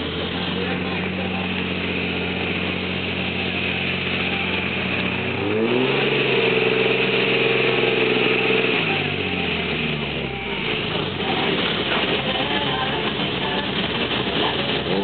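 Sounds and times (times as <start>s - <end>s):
engine revving up: 0.0s - 15.0s
engine running: 0.0s - 15.0s.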